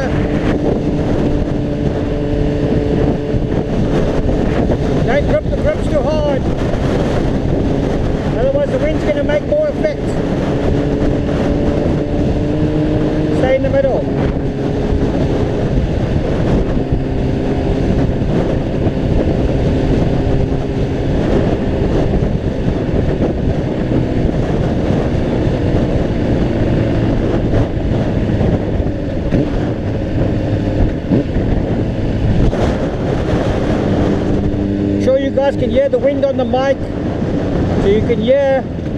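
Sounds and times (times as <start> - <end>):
motorcycle engine drone: 0.0 - 38.9
wind buffeting microphone: 0.0 - 38.9.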